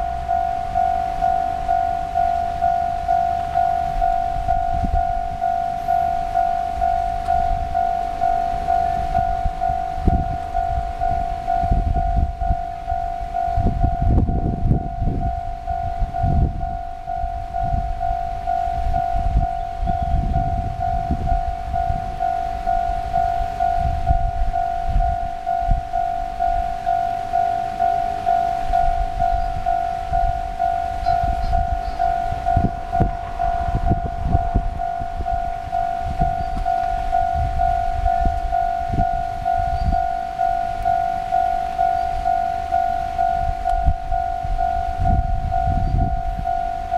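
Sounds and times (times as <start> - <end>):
level crossing warning bell: 0.0 - 46.9
wind buffeting microphone: 0.0 - 46.9.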